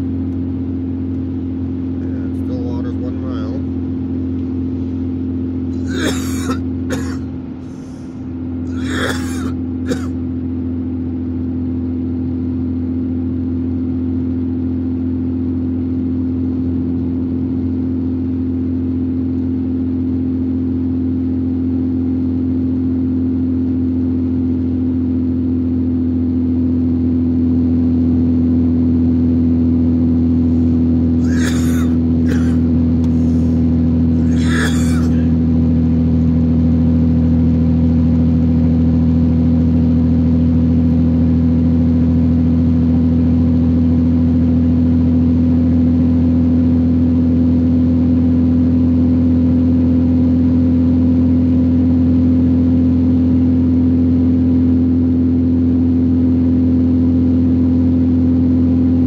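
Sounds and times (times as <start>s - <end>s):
car engine and road drone: 0.0s - 59.0s.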